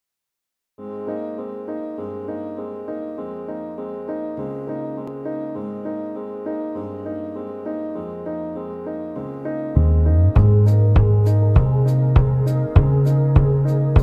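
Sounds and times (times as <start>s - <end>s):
piano background music: 0.8s - 14.0s.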